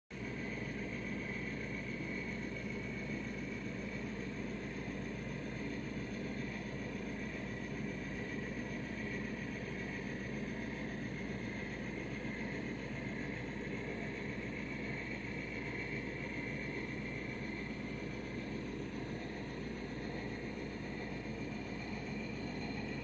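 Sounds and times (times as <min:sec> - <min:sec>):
constant high whine: 0:00.1 - 0:23.0.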